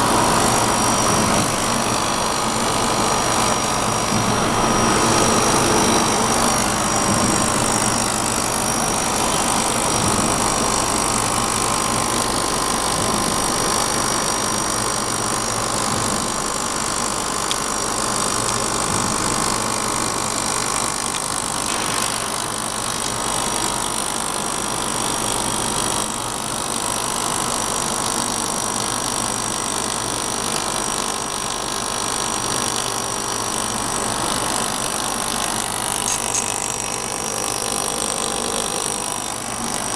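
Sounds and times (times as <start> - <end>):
welding machine whirring hum: 0.0 - 39.9.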